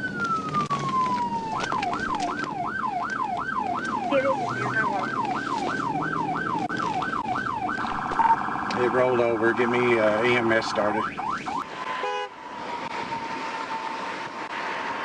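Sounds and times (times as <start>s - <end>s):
police siren wailing and yelping: 0.0s - 14.9s.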